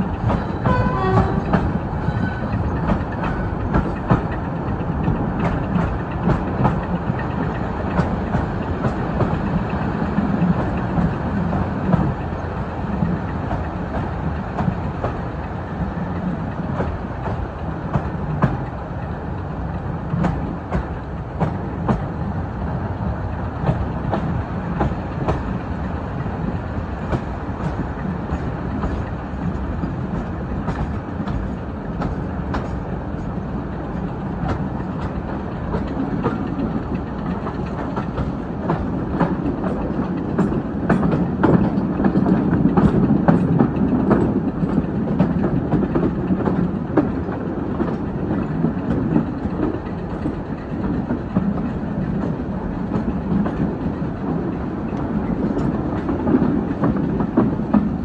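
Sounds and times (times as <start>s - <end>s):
train coaches rumbling: 0.0s - 58.0s.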